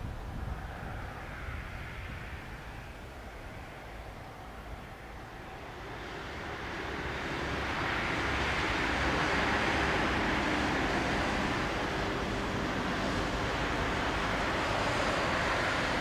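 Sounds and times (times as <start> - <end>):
train running on track: 0.0 - 16.0.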